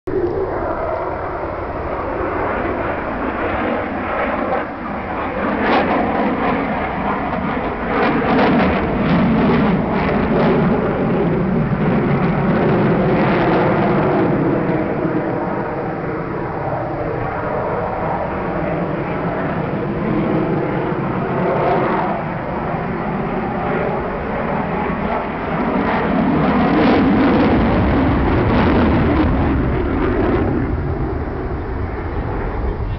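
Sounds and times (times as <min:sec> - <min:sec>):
jet flying overhead: 0:00.1 - 0:32.9.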